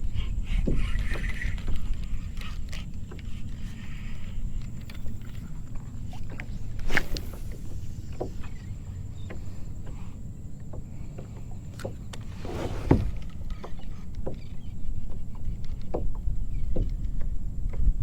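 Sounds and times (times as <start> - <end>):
water and wind rumble: 0.0 - 18.0
paddle knocking against hull: 0.5 - 3.3, 5.7 - 10.0, 10.6 - 18.0.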